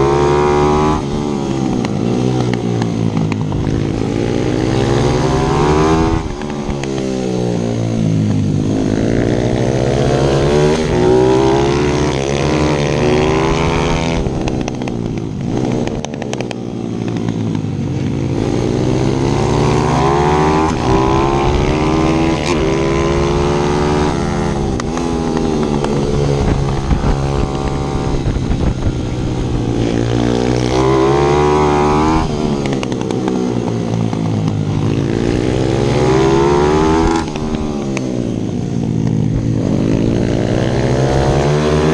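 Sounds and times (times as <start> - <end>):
small motorbike engine revving: 0.0 - 41.9.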